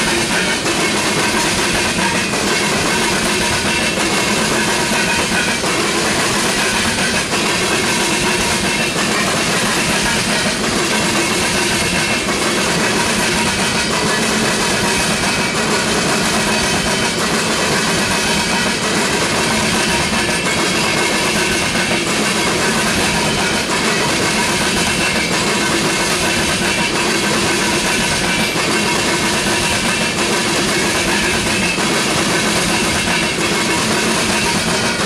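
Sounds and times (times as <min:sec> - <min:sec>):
train wheels rolling on rails: 0:00.0 - 0:35.0.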